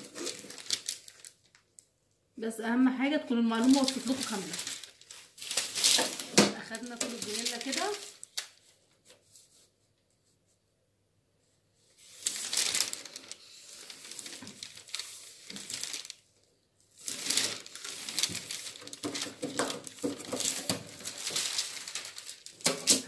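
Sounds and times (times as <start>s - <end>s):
paper rustling and crinkling: 0.0s - 1.9s, 3.5s - 10.5s, 11.9s - 23.0s.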